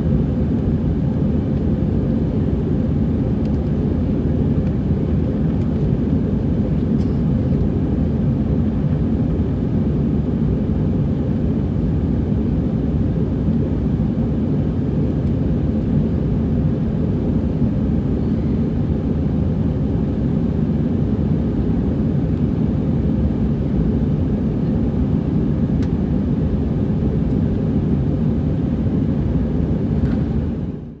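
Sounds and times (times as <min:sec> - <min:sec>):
airplane cabin drone: 0:00.0 - 0:31.0.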